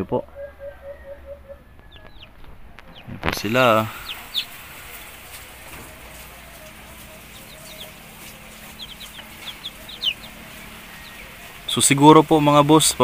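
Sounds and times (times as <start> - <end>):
chicks peeping: 0.1 - 13.0.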